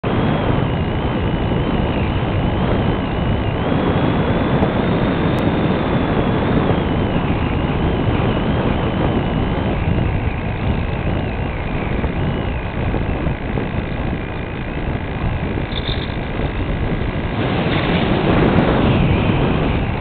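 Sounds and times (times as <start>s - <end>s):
air rushing and propeller noise: 0.0s - 20.0s
high electric motor whine: 0.0s - 20.0s.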